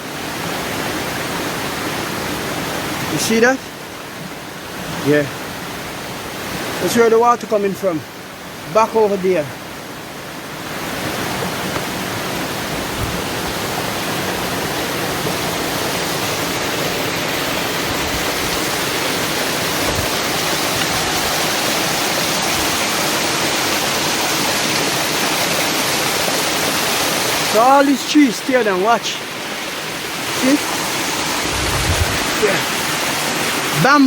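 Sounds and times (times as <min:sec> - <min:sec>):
river water rushing over rocks: 0:00.0 - 0:34.0.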